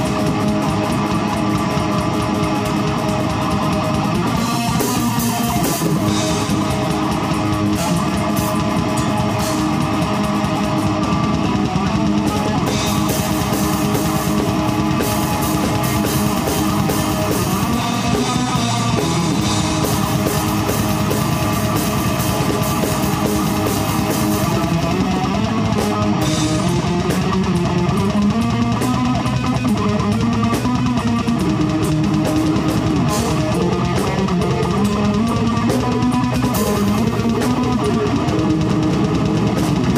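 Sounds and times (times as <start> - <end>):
drum and cymbal hits: 0.0 - 39.9
electric guitar and bass riffing: 0.0 - 39.9
metal band playing live: 0.0 - 39.9.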